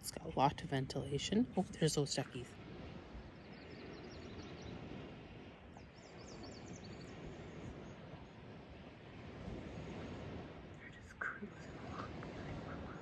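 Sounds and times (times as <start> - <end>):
outdoor background noise by water: 0.0 - 13.0.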